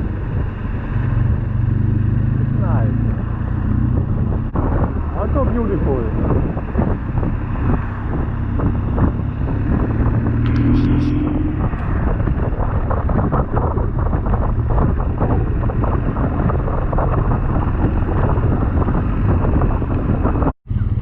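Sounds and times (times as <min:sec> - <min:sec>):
motorcycle engine rumble: 0:00.0 - 0:21.0
wind rushing over microphone: 0:00.0 - 0:21.0.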